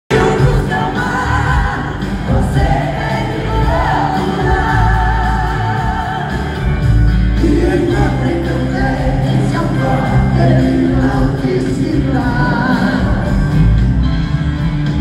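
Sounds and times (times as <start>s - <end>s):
person singing with vibrato: 0.1s - 13.8s
band with heavy bass: 0.1s - 15.0s.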